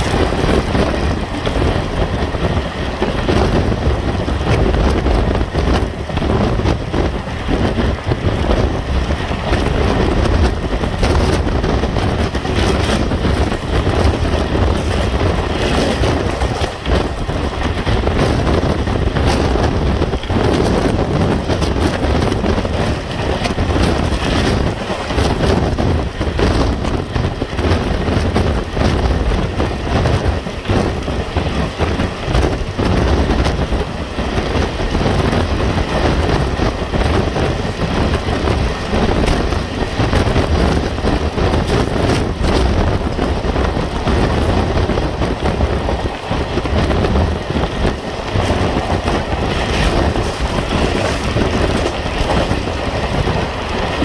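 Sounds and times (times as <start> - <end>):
train coaches rumbling: 0.0 - 54.0
wheels clattering on rails: 0.0 - 54.0
wind buffeting microphone: 0.0 - 54.0.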